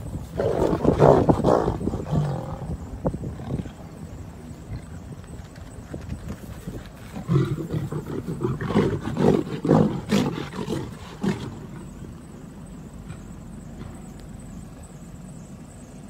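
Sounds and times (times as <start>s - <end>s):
lions snarling and roaring: 0.2s - 5.3s, 6.2s - 14.1s.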